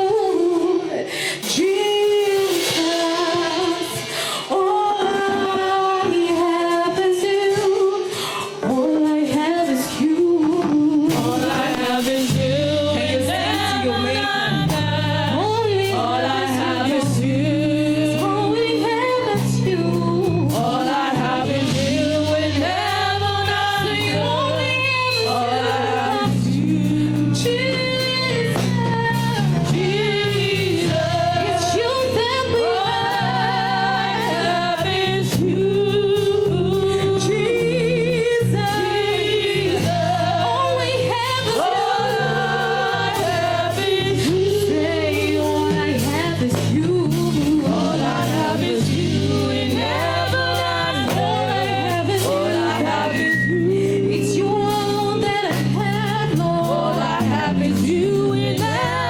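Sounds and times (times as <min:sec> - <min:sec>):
choir singing gospel: 0:00.0 - 0:59.0.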